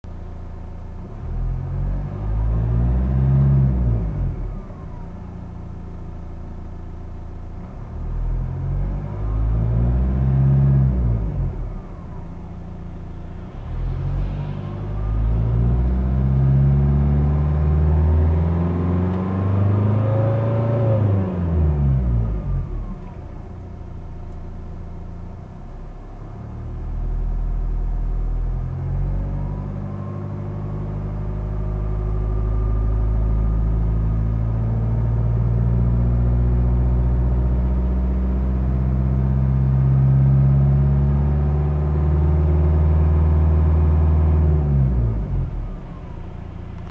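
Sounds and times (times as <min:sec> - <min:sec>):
diesel engine revving: 0:01.1 - 0:05.3, 0:07.8 - 0:46.9.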